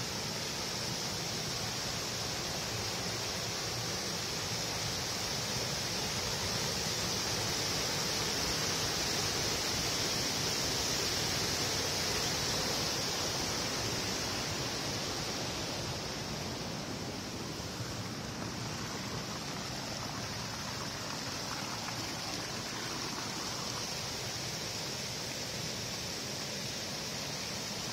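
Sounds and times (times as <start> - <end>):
water rushing over waterfall: 0.0 - 27.9.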